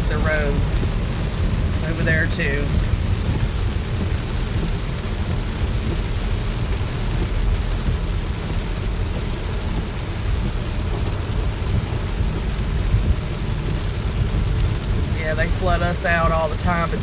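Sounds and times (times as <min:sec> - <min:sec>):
car road and engine rumble: 0:00.0 - 0:17.0
rain hissing: 0:00.0 - 0:17.0.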